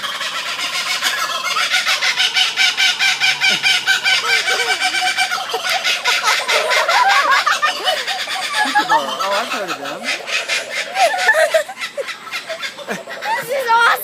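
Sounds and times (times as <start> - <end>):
kookaburras cackling: 0.0 - 14.0.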